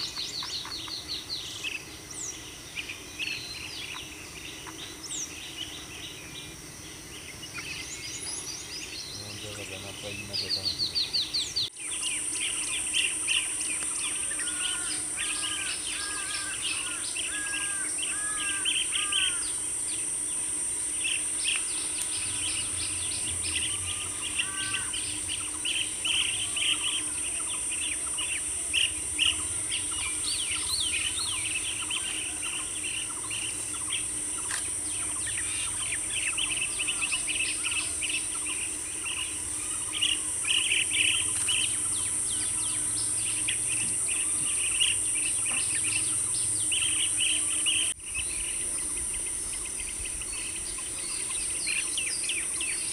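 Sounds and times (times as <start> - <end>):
birds chirping and trilling: 0.0 - 52.9
high insect buzz: 0.0 - 52.9.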